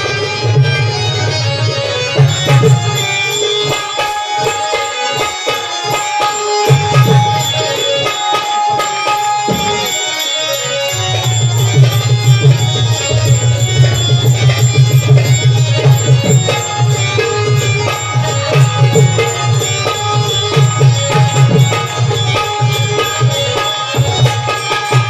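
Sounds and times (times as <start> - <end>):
melody of held notes: 0.0 - 25.0
hand drums beating: 2.1 - 25.0.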